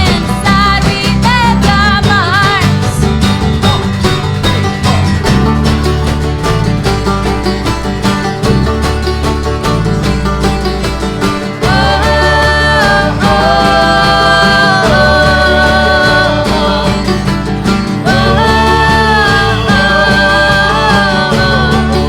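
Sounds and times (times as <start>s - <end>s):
acoustic bluegrass band: 0.0s - 22.0s.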